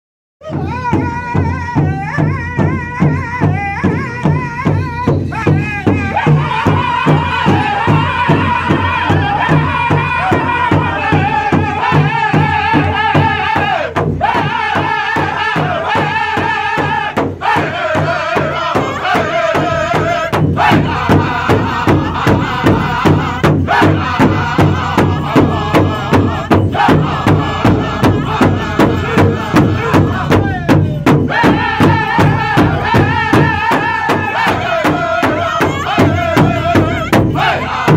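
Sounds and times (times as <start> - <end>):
large drum beat: 0.4 - 37.9
men chanting in unison: 0.4 - 37.9.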